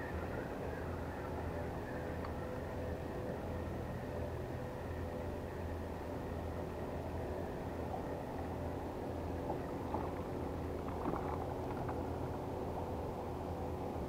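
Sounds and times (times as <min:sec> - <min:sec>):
engine hum: 0:00.0 - 0:14.0.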